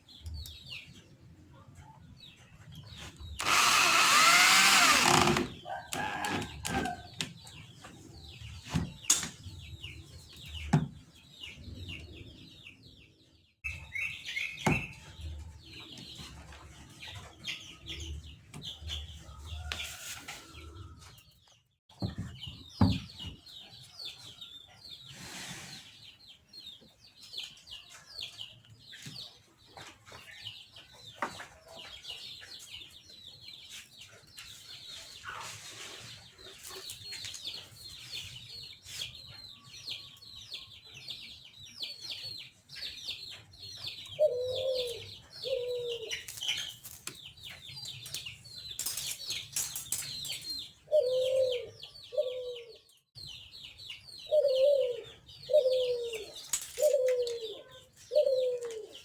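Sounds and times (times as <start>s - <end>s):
small birds chirping: 0.0s - 59.0s
chickens clucking: 5.5s - 59.0s.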